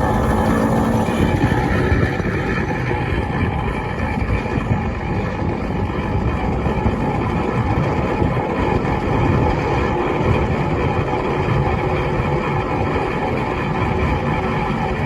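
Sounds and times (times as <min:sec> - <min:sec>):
machinery low rumble: 0:00.0 - 0:15.0.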